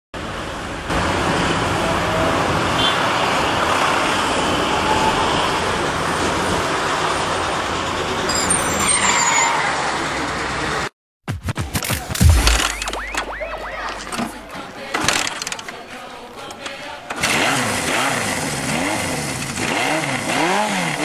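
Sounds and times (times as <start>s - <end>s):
city traffic noise: 0.2s - 10.9s, 11.8s - 21.0s.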